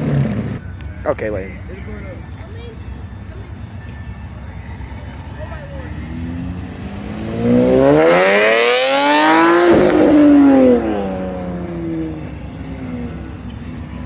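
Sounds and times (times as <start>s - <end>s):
vehicle engine revving: 0.0s - 0.8s, 3.0s - 14.0s.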